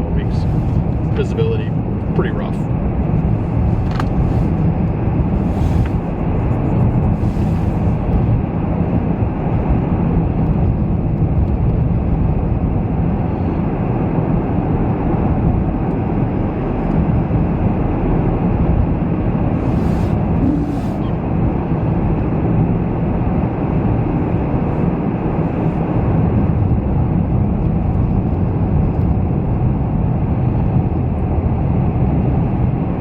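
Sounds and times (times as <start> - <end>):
car interior road rumble: 0.0 - 33.0.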